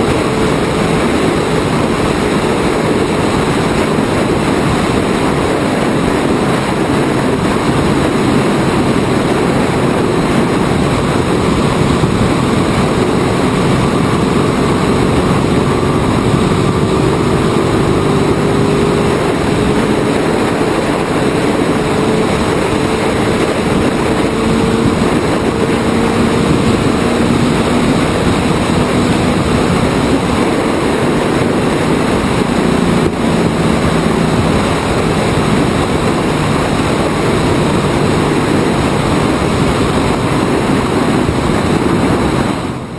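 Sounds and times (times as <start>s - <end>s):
race car engine: 0.0s - 42.9s
wind and road noise: 0.0s - 42.9s.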